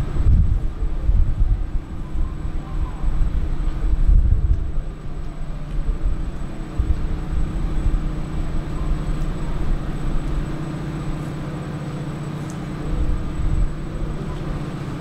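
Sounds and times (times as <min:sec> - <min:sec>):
low engine drone: 0:00.0 - 0:15.0
low rumble: 0:00.0 - 0:15.0.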